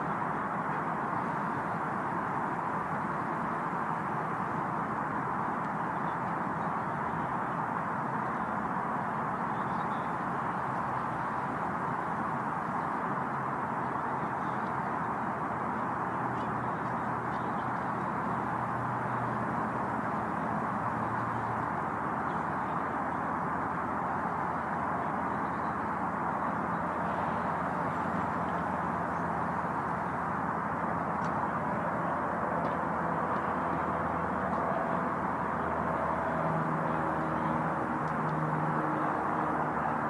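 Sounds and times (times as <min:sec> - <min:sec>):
airfield and traffic hiss: 0:00.0 - 0:40.0
distant engine rumble: 0:00.1 - 0:40.0.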